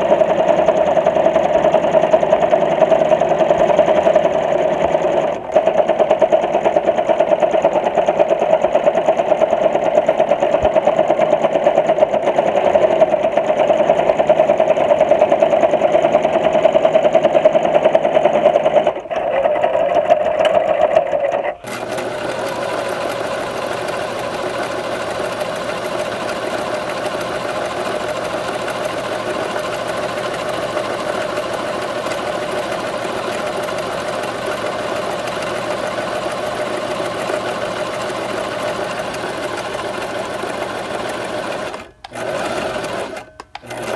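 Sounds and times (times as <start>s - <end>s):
sewing machine stitching: 0.0s - 43.9s.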